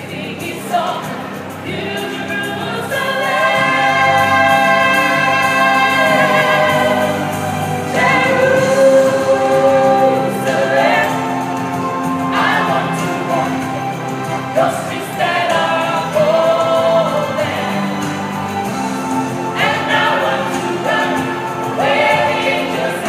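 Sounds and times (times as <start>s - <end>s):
a cappella group singing: 0.0s - 23.0s.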